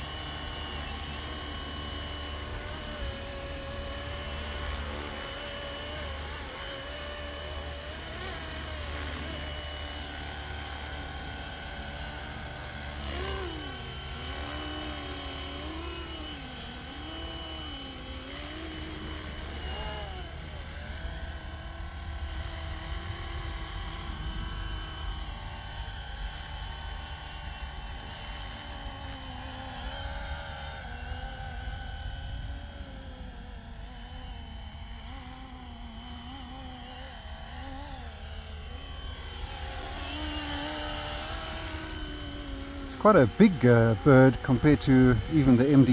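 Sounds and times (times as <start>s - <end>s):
model helicopter motor whine: 0.0s - 45.9s.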